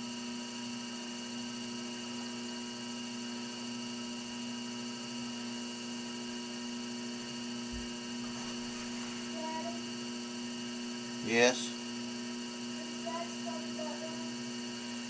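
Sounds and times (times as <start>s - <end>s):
potter's wheel motor humming: 0.0s - 15.0s.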